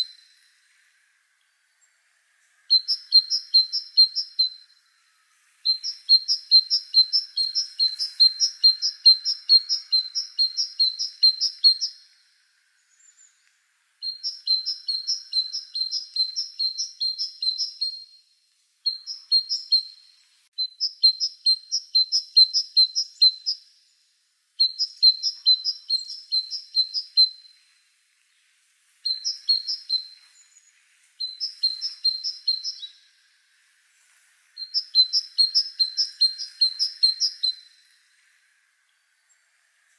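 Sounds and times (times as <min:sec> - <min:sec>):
small bird chirping: 0:00.0 - 0:00.7, 0:01.5 - 0:04.8, 0:05.5 - 0:33.3, 0:34.5 - 0:39.9.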